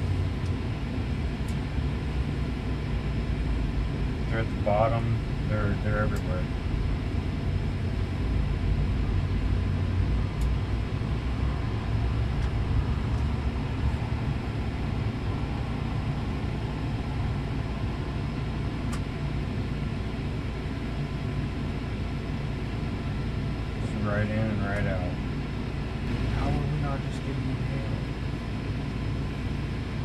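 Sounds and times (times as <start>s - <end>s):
low mechanical drone: 0.0s - 30.0s.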